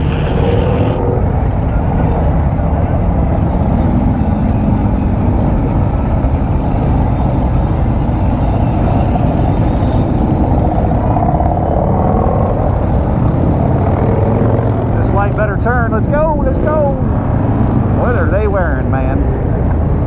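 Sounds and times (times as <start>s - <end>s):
passing vehicle engine: 0.0s - 20.0s
road traffic rumble: 0.0s - 20.0s.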